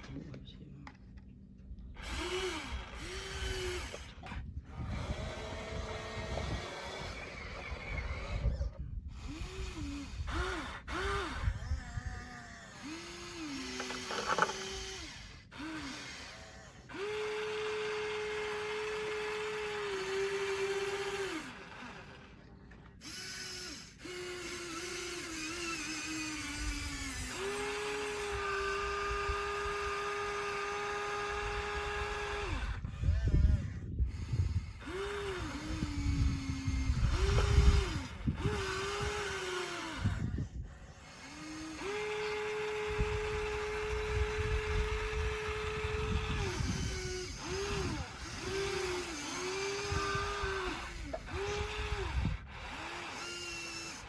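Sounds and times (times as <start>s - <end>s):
small electric motors whining: 1.7s - 54.0s.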